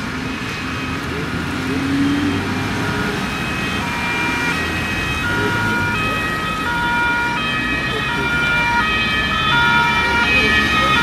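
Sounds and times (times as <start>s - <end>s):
two-tone emergency sirens: 0.0s - 11.0s
vehicle engine and tyre noise: 0.0s - 11.0s.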